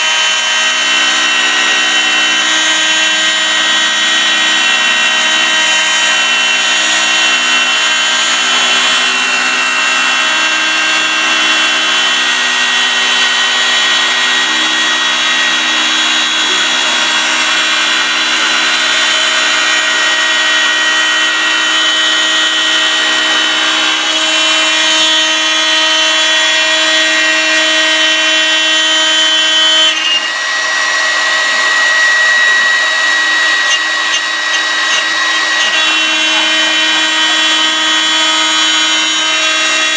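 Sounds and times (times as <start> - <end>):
cutter routing plywood: 0.0 - 39.9
router spindle whine: 0.0 - 39.9.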